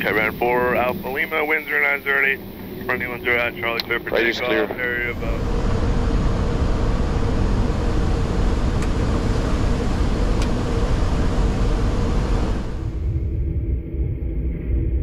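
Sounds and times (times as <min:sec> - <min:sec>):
aircraft engine noise: 0:00.0 - 0:13.8
airflow rushing: 0:00.0 - 0:15.0.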